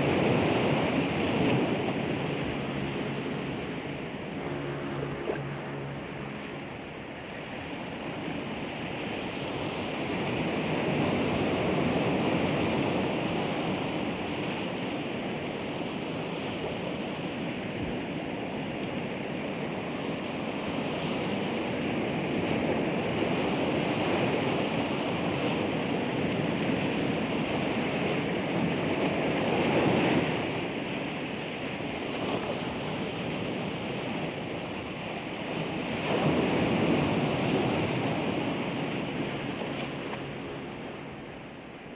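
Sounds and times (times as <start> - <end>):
sea waves rushing: 0.0 - 41.9.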